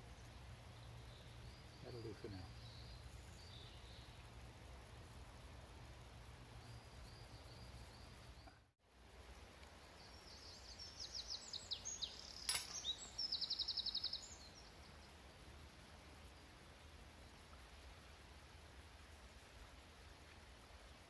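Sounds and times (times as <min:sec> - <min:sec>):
songbird singing: 0:00.0 - 0:20.4.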